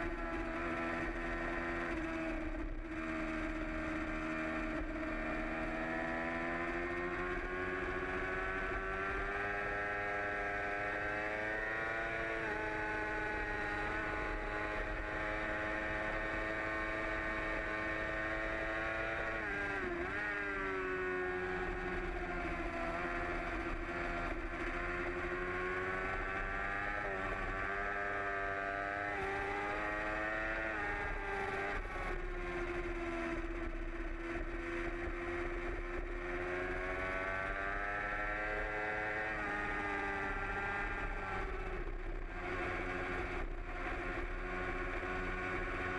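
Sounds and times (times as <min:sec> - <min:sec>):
motorcycle engine revving high: 0:00.0 - 0:45.9.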